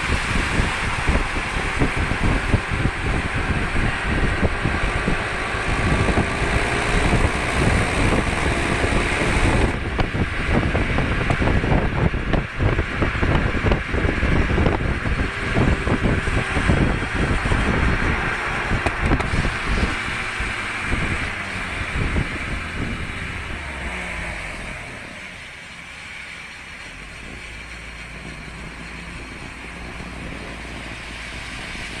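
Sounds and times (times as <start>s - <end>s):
wind buffeting microphone: 0.0s - 25.1s, 26.9s - 32.0s
road and engine noise: 0.0s - 32.0s.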